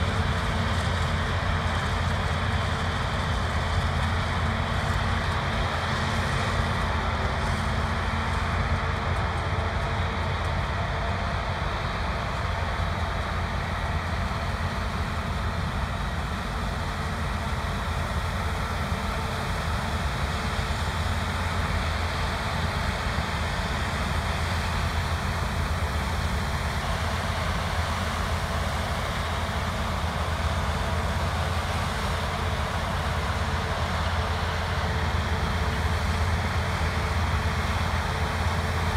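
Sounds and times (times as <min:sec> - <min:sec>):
harvest machinery engine drone: 0:00.0 - 0:38.9.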